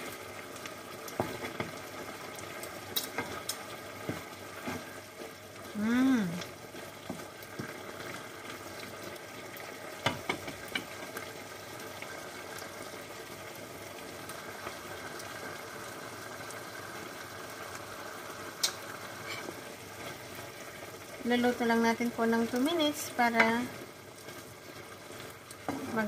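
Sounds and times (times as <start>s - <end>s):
food sizzling in pan: 0.0s - 26.0s.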